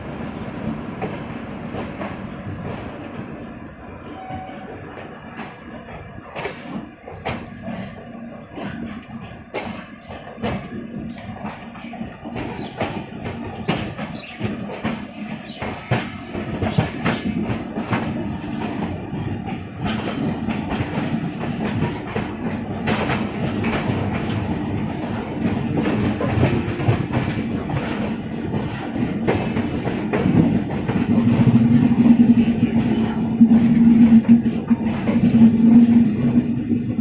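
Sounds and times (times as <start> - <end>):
train wheels clattering over rails: 0.0 - 3.6, 4.3 - 37.0.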